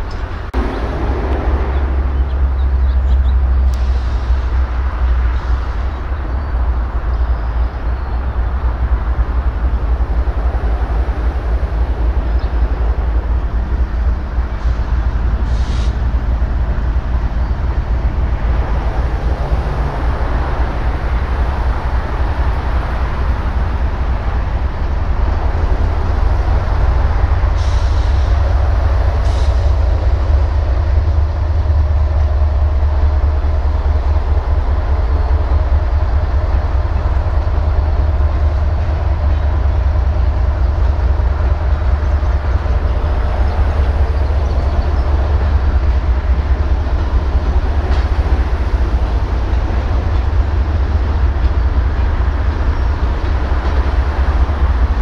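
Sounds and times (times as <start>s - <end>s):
diesel locomotive engine: 0.0s - 55.0s
train wheels rumbling on rails: 0.0s - 55.0s.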